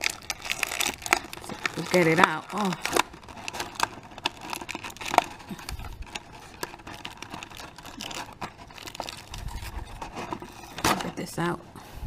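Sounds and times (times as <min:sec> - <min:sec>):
plastic packaging clicks and crinkles: 0:00.0 - 0:11.9.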